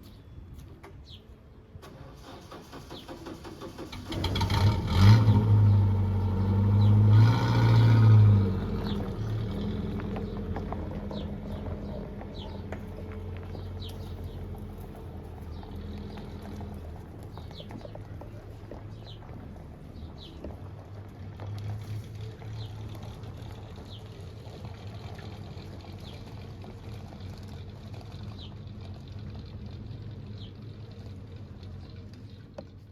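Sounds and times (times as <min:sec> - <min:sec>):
birds chirping: 0:00.0 - 0:03.4, 0:05.7 - 0:26.5, 0:30.0 - 0:32.9
vehicle engine humming: 0:00.0 - 0:32.9.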